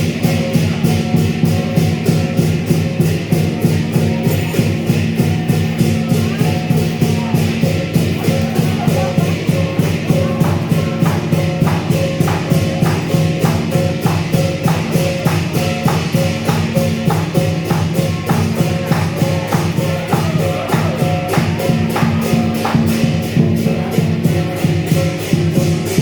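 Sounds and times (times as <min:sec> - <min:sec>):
cymbals ringing: 0:00.0 - 0:26.0
percussion band drums and gong: 0:00.0 - 0:26.0.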